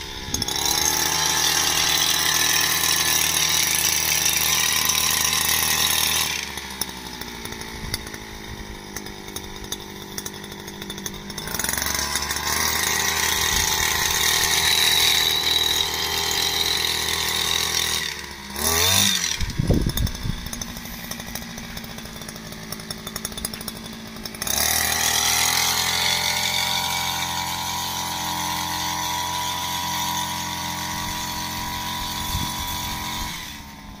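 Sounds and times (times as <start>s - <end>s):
small petrol engine running: 0.0s - 34.0s.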